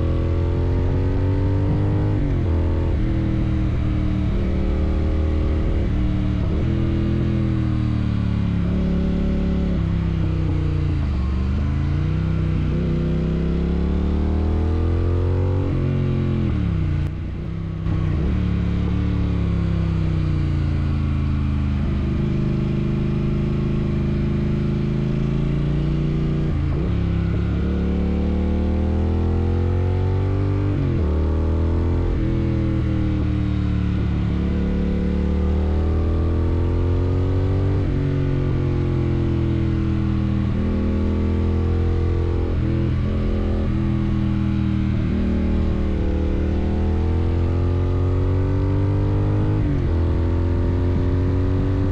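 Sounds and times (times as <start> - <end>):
motorcycle engine shifting gears: 0.0 - 51.9.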